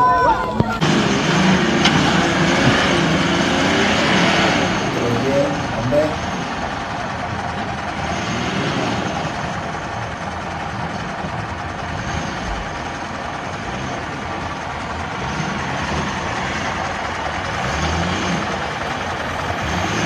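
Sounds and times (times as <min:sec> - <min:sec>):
engine running under heavy throttle: 0:00.0 - 0:20.0
tyres spinning in loose dirt: 0:00.0 - 0:20.0.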